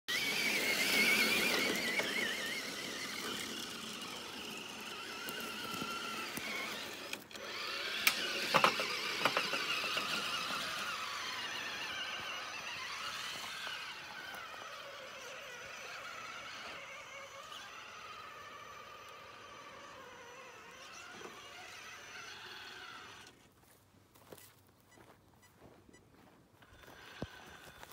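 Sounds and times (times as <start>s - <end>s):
electric motor whining: 0.1s - 23.4s, 26.6s - 27.9s.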